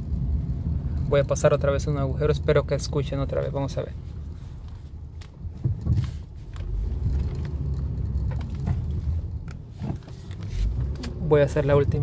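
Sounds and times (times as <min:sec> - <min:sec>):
road rumble inside car: 0:00.0 - 0:12.0.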